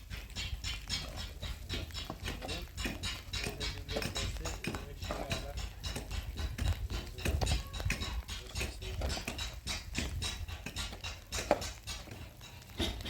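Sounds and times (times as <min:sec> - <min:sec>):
clicks and knocks of building work: 0:00.0 - 0:13.0.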